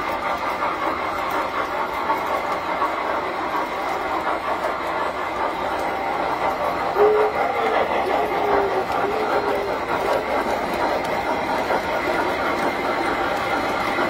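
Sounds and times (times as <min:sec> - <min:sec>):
model trains whirring and rattling: 0:00.0 - 0:14.0.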